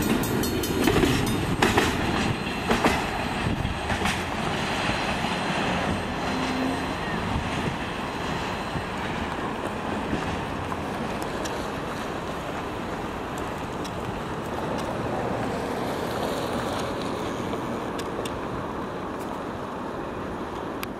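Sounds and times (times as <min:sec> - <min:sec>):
train wheels rolling on rails: 0:00.0 - 0:20.9.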